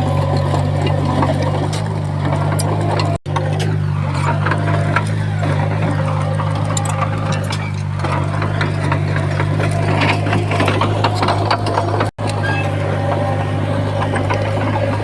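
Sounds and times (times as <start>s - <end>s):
diesel engine droning: 0.0s - 15.0s
rattling and clanking: 0.0s - 15.0s.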